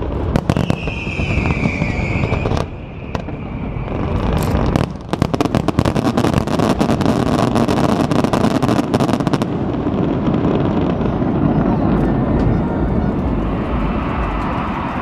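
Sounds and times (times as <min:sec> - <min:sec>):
fireworks crackling: 0:00.0 - 0:15.0
wind rumble on microphone: 0:00.0 - 0:15.0.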